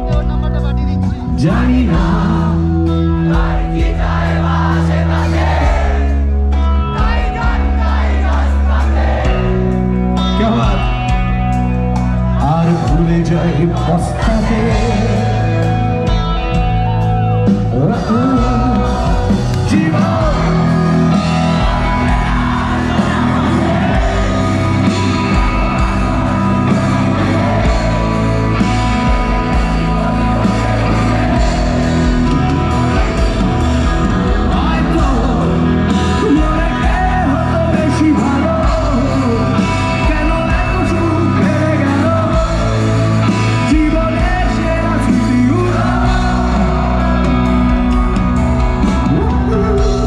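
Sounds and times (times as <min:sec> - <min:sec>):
live rock band with singer: 0:00.0 - 0:50.0.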